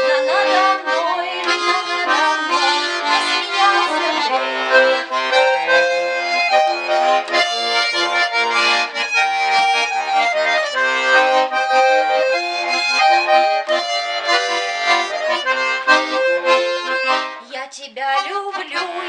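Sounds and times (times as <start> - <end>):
accordion playing: 0.0 - 19.0.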